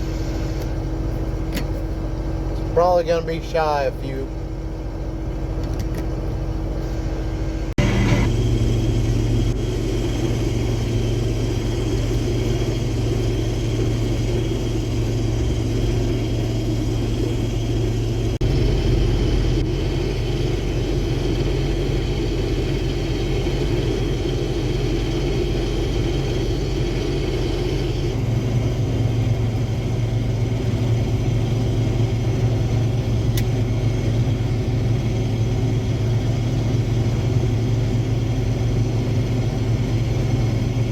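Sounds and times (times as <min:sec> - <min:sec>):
combine harvester drone: 0:00.0 - 0:40.9.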